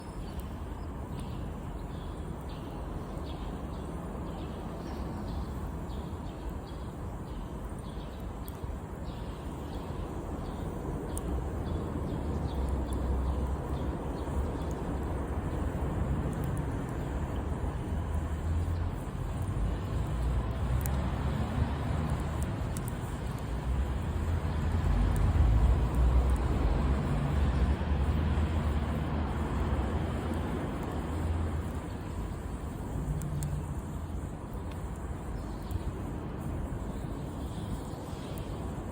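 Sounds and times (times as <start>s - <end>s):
low fire rumble: 0.2s - 38.9s
campfire crackling and popping: 5.0s - 38.9s.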